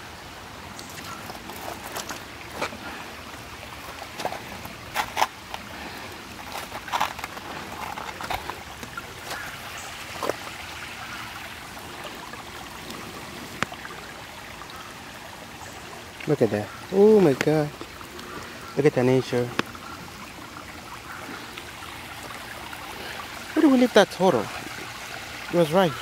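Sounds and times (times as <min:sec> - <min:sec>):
creek trickling over rocks: 0:00.0 - 0:26.0.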